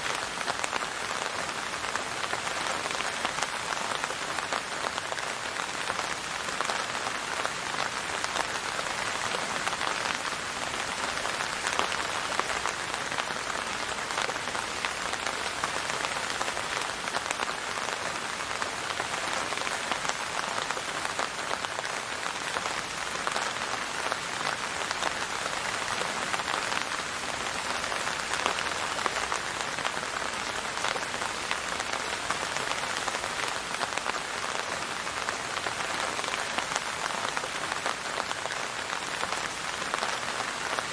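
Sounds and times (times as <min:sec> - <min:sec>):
rain on a hard surface: 0:00.0 - 0:40.9.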